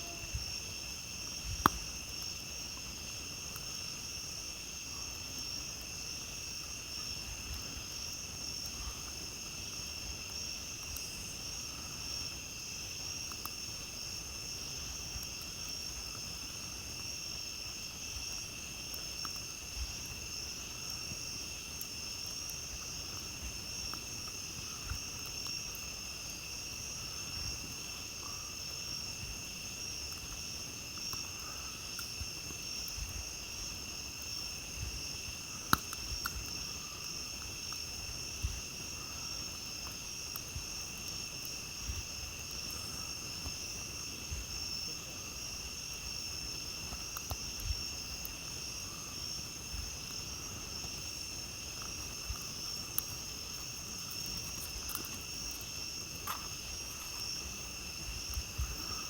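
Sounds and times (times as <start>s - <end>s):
crickets trilling: 0.0s - 59.0s
campfire crackling and popping: 0.4s - 59.0s.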